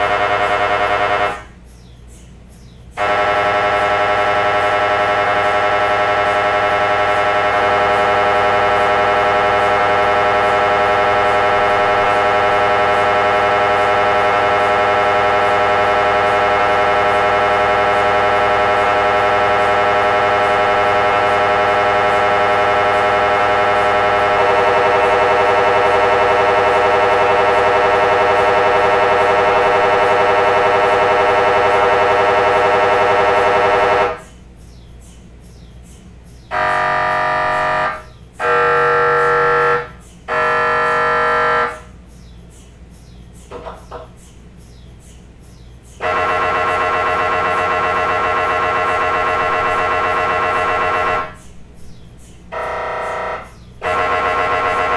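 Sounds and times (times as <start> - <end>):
buzzing pulses: 0.0 - 1.6, 3.0 - 34.4, 36.4 - 42.1, 45.9 - 54.9
mri scanner buzzing drone: 0.0 - 2.0, 2.7 - 44.9, 45.5 - 54.9.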